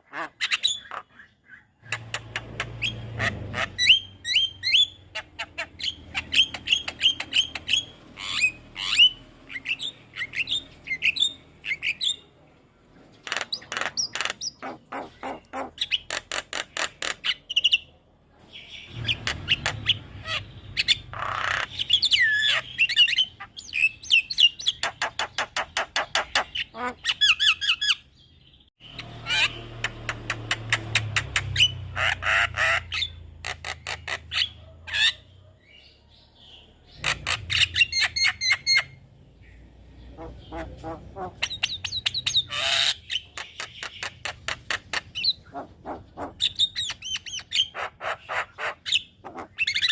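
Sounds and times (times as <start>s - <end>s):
bird singing varied song: 0.0s - 49.9s.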